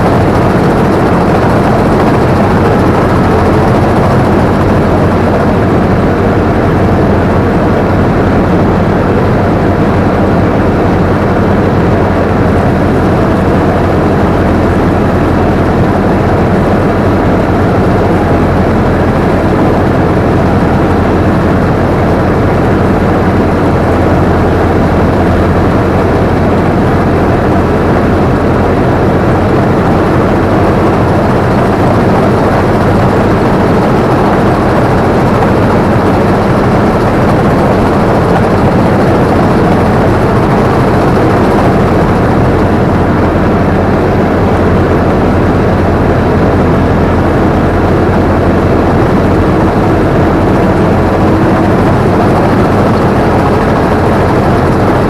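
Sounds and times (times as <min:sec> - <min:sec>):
machinery rattling: 0:00.0 - 0:45.5
combine harvester engine drone: 0:00.0 - 0:55.0.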